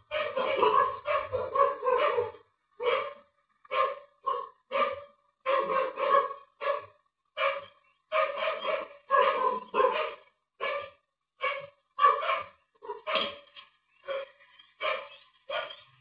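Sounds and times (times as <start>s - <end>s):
dog barking: 0.0s - 15.9s.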